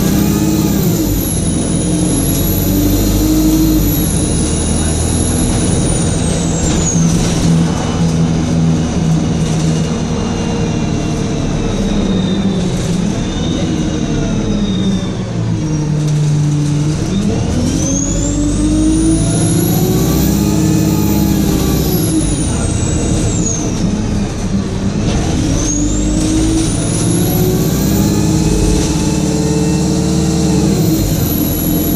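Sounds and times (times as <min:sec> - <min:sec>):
bus diesel engine accelerating: 0:00.0 - 0:31.9
turbocharger whine: 0:00.0 - 0:31.9.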